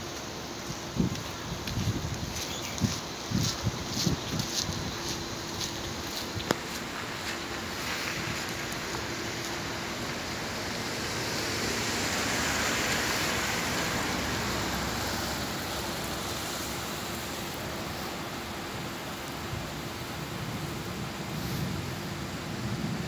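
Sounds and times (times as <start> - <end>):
car tyres hissing on wet road: 0.0 - 23.0
light rain: 0.0 - 23.0.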